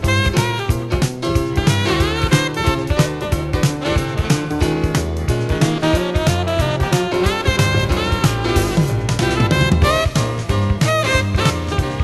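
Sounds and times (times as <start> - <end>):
jazz fusion instrumental music: 0.0 - 12.0.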